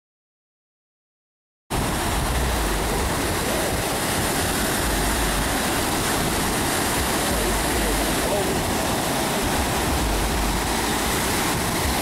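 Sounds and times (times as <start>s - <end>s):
waves breaking on beach: 1.7s - 12.0s
wind rumble on microphone: 1.7s - 12.0s.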